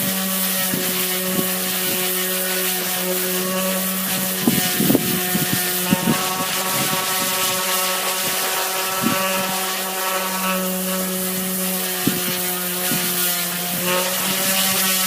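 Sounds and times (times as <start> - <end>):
power sander grinding: 0.0 - 15.0.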